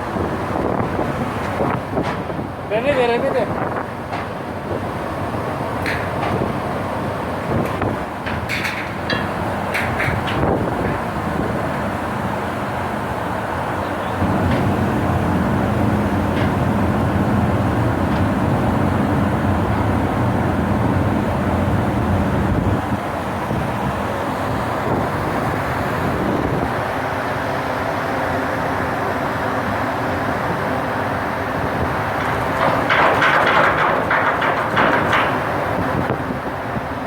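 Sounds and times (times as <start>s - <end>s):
ship engine humming: 0.0s - 37.0s.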